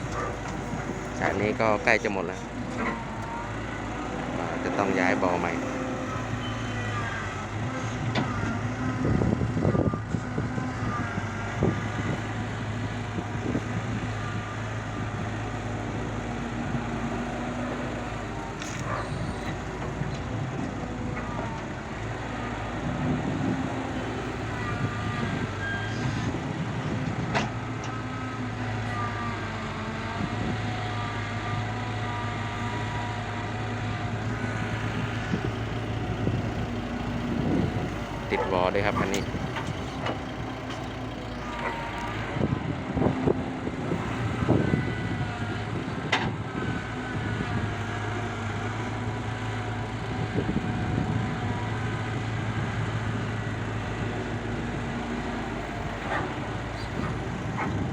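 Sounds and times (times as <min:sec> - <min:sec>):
large diesel engine running: 0:00.0 - 0:57.9.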